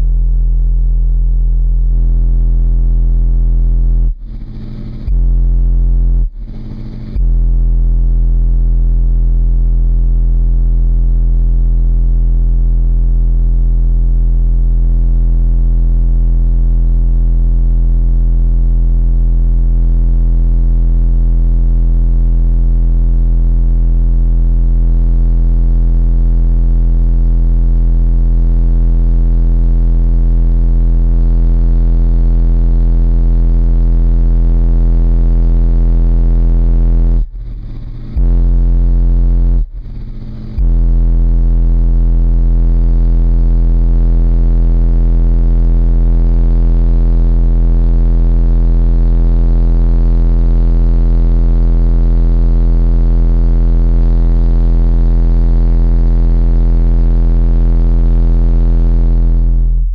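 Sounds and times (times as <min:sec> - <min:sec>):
distorted low bass tone: 0:00.0 - 0:47.2, 0:50.1 - 0:51.7, 0:54.0 - 0:54.6, 0:56.2 - 0:56.7, 0:58.0 - 0:59.9.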